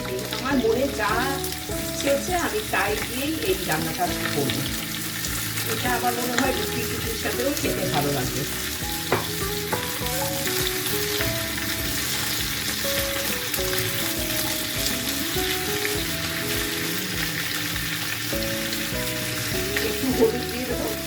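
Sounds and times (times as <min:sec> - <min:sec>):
background music: 0:00.0 - 0:21.0
vegetables sizzling in oil: 0:00.0 - 0:21.0.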